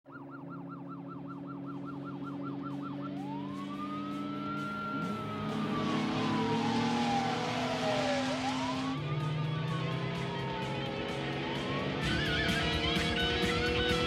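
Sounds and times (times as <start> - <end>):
police siren yelp and wail: 0.0 - 14.0.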